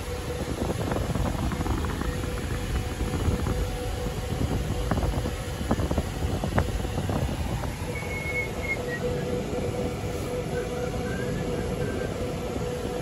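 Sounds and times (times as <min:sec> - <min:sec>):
car cabin road rumble: 0:00.0 - 0:13.0
faint steady hum: 0:00.0 - 0:13.0.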